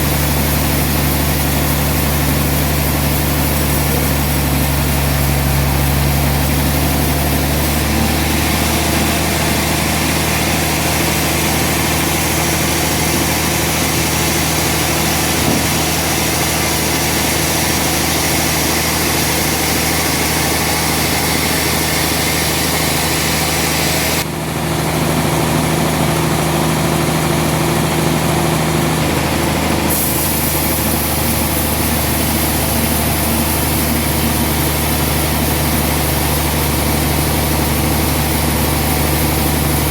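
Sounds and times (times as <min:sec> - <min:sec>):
loud hiss: 0:00.0 - 0:24.2, 0:29.3 - 0:39.9
deep engine hum: 0:00.0 - 0:39.9
sawmill machinery running: 0:00.0 - 0:39.9.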